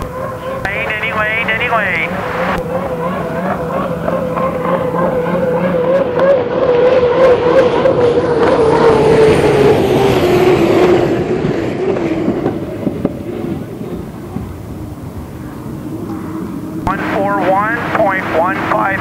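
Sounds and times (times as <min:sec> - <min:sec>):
rush of wind and water: 0:00.0 - 0:19.0
turbine engine whine: 0:00.0 - 0:19.0.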